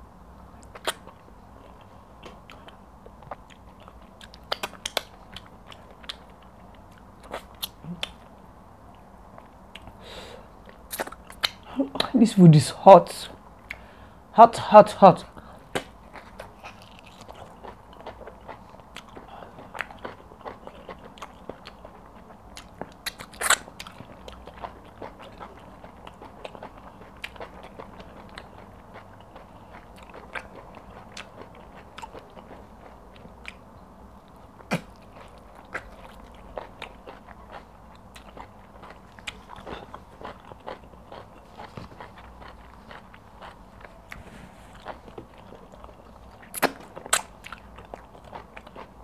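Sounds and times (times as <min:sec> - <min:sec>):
wet chewing and lip-smacking: 0:00.6 - 0:08.3, 0:10.6 - 0:12.2, 0:15.7 - 0:49.0.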